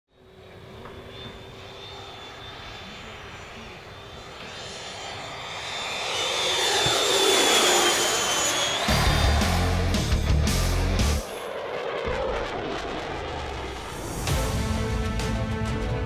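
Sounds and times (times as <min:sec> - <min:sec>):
model jet fan whine flying by: 0:00.1 - 0:14.6.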